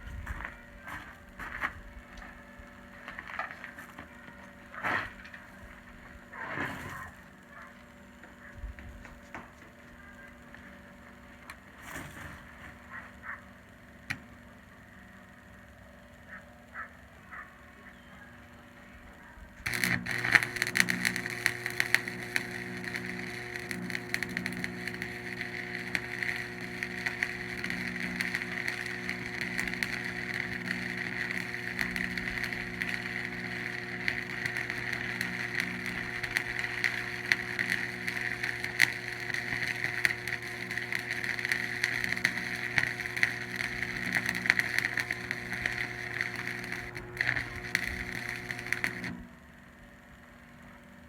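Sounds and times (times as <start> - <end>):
welding arc crackling sizzle: 0.0 - 15.6, 16.2 - 49.4
low steady welder hum: 0.0 - 51.0.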